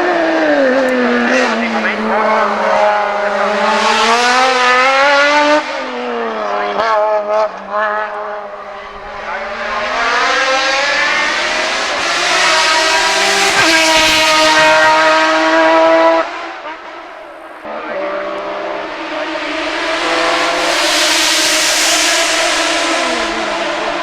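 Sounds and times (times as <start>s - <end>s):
race car engine at full throttle: 0.0s - 24.0s.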